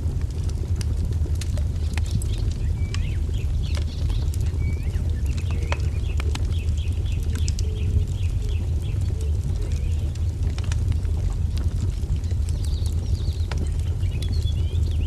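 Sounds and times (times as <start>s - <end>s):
wood fire crackling: 0.0s - 15.0s
small birds chirping: 1.7s - 15.0s.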